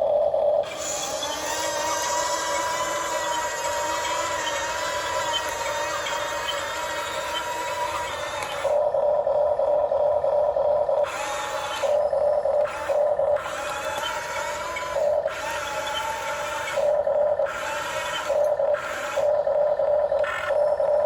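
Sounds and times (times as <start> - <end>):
electric motors and gears whirring: 0.0 - 21.0
steady hum: 0.0 - 21.0.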